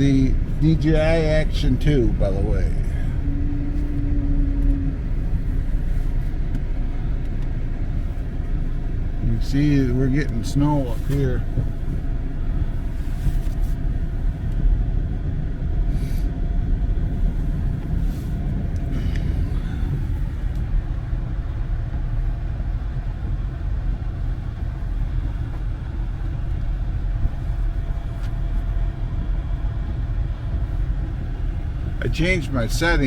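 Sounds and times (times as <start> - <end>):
vehicle engine and tyres rumbling: 0.0 - 33.0.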